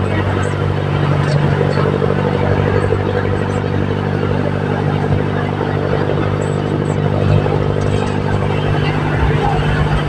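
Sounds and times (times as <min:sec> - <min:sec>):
diesel engine running: 0:00.0 - 0:10.0
road and traffic noise: 0:00.0 - 0:10.0.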